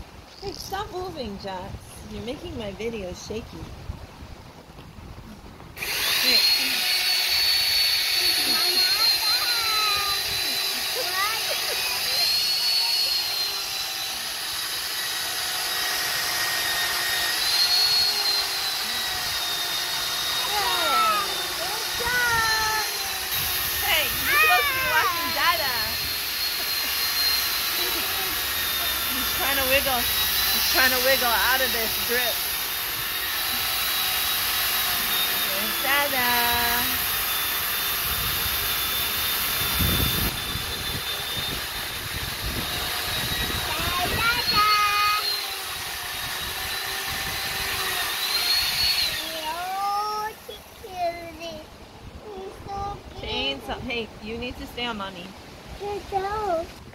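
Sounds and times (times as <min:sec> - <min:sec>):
electric chainsaw cutting wood: 0:05.7 - 0:51.7.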